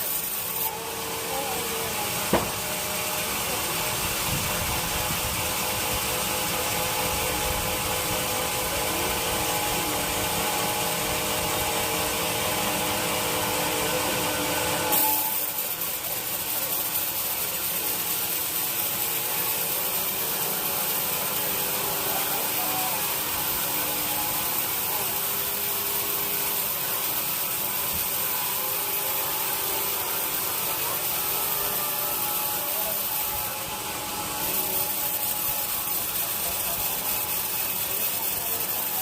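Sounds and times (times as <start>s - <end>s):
sawmill saw cutting wood: 0.0s - 39.0s.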